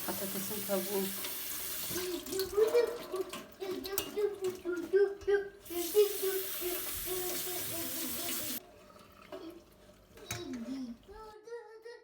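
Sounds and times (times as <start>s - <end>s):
tap water running into sink: 0.0s - 11.3s.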